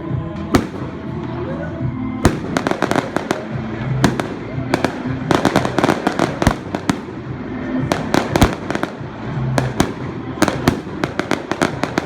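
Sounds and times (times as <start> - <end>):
fireworks bangs and crackles: 0.1 - 12.0.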